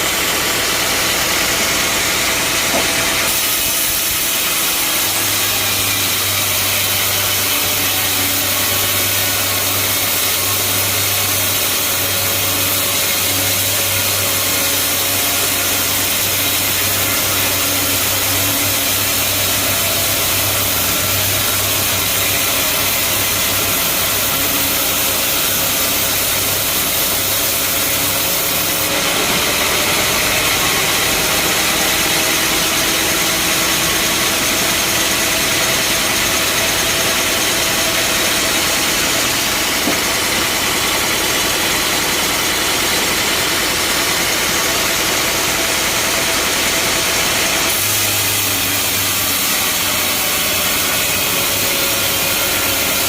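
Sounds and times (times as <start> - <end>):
bandsaw cutting through log: 0.0 - 53.0.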